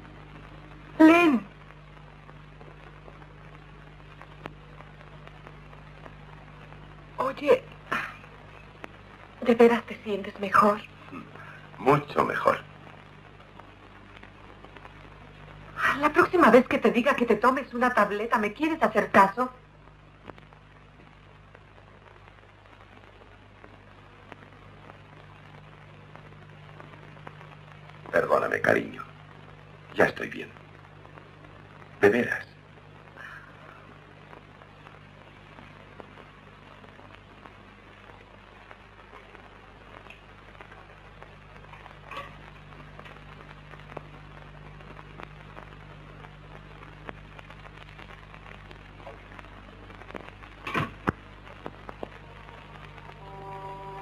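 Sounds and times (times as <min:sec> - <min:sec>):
film soundtrack hiss and crackle: 0:00.0 - 0:54.0
steady low hum: 0:00.0 - 0:54.0.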